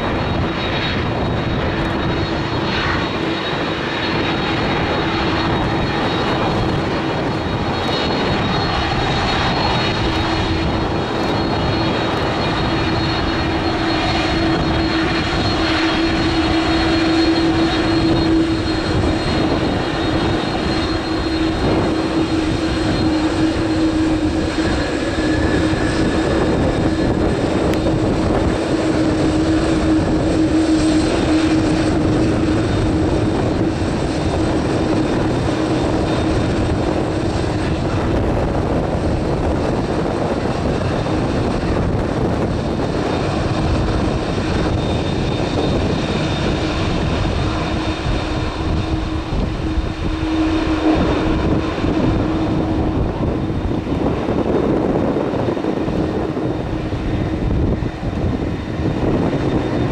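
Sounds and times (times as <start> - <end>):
jet engines taxiing: 0.0 - 59.9.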